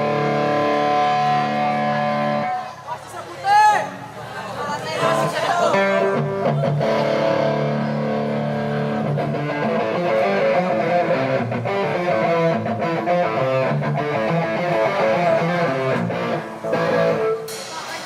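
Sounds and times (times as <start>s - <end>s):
electric guitar strumming chords: 0.0s - 2.8s, 5.7s - 18.0s.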